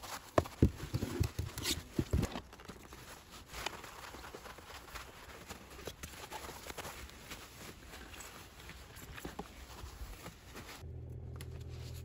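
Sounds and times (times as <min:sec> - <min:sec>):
cloth rubbing plastic: 0:00.0 - 0:10.8.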